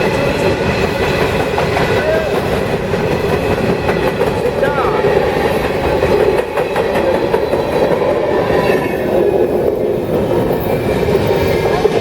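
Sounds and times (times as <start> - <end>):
freight train rumbling past: 0.0 - 12.0
wheel clacks over rail joints: 0.0 - 12.0.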